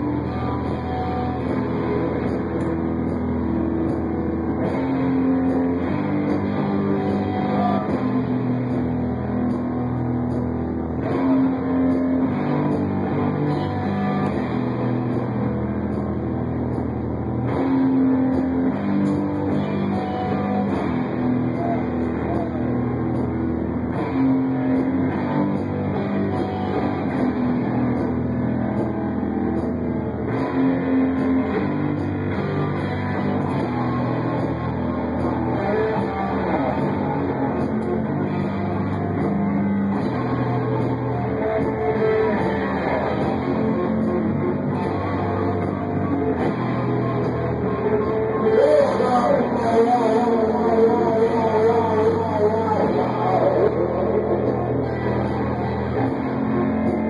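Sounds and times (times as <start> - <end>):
electric bass low notes: 0.0 - 57.0
live rock music: 0.0 - 57.0.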